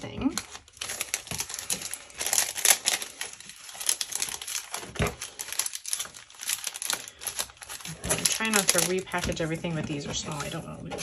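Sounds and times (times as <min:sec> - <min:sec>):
paper rustling: 0:00.0 - 0:11.0
plastic packaging crinkling: 0:00.0 - 0:11.0.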